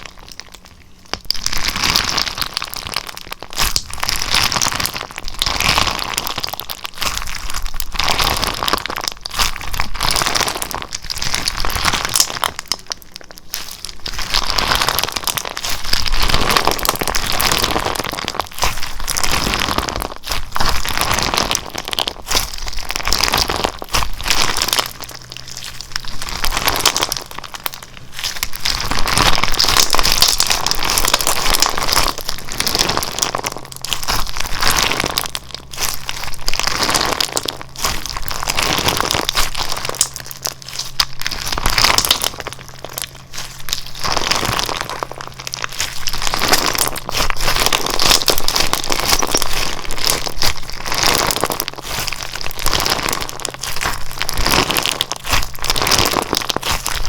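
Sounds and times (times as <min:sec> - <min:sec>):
slime squished by hand crackling: 0:00.0 - 0:57.0.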